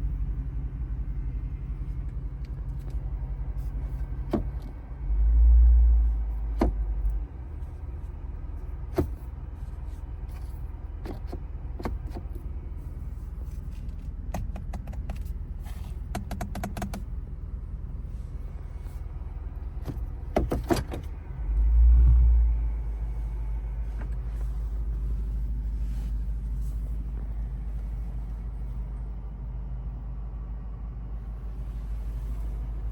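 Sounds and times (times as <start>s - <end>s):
car engine deep rumble: 0.0s - 32.9s.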